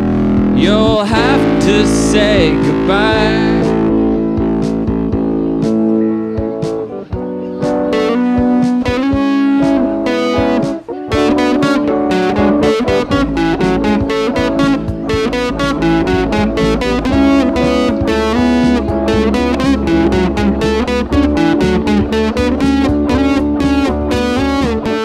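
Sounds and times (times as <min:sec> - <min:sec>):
bass guitar: 0:00.0 - 0:25.0
electric guitar picked notes: 0:00.0 - 0:25.0.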